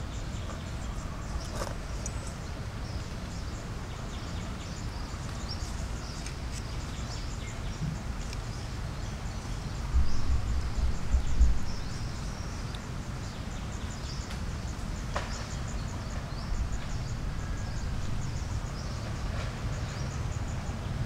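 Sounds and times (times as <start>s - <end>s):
low uneven rumble: 0.0s - 21.0s.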